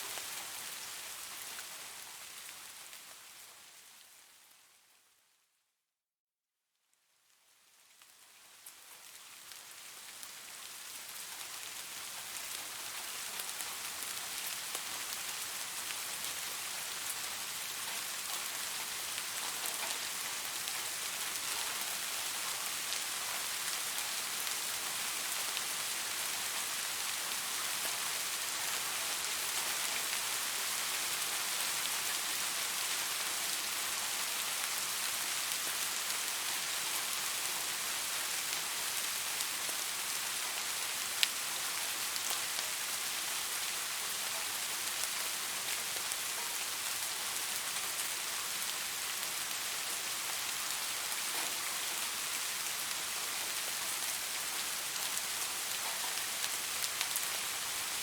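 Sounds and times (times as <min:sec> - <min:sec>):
rain falling on leaves: 0:00.0 - 0:05.4, 0:06.8 - 0:58.0.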